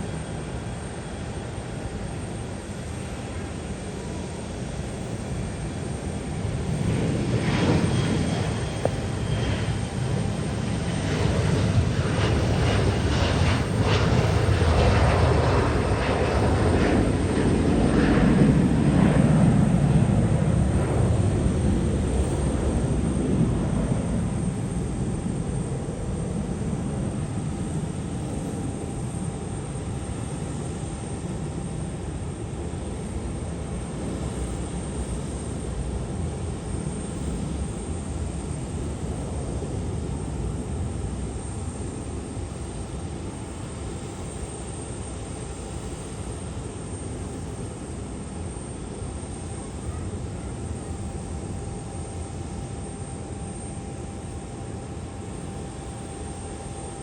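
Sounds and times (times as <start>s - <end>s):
aircraft engine rumble: 0.0s - 57.0s.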